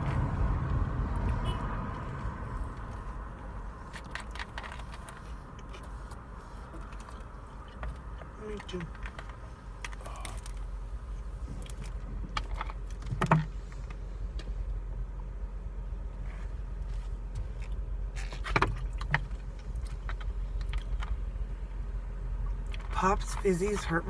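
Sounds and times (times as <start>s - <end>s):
car cabin road rumble: 0.0s - 24.0s.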